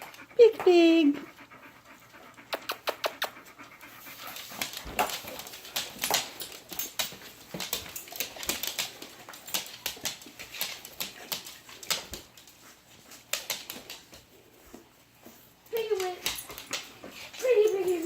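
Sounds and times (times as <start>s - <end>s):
dog making clicks and rustles: 0.0s - 18.0s.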